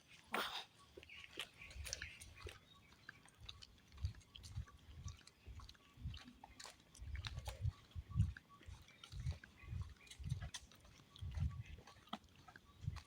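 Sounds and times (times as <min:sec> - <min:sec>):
footsteps on forest trail: 0:00.8 - 0:13.0.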